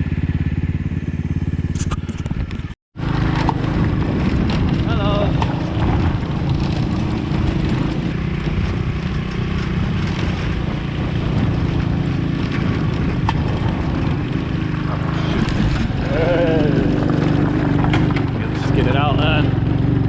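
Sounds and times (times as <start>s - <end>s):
motorcycle engine drone: 0.0s - 20.0s.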